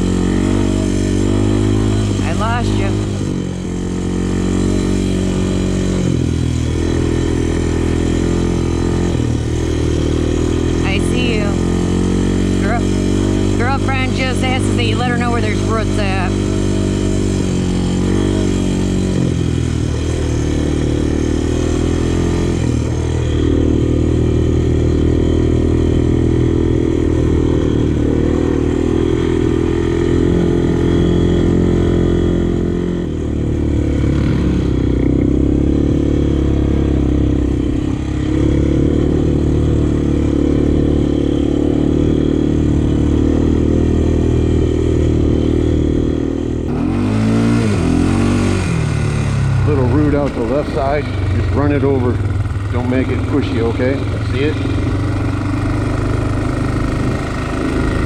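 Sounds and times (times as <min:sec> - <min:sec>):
quad bike engine under throttle: 0:00.0 - 0:58.0.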